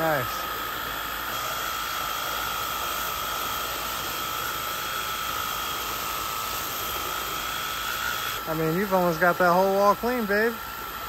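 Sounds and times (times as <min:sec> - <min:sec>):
pressure washer motor whining: 0:00.0 - 0:11.0
water jet hissing on siding: 0:00.0 - 0:11.0.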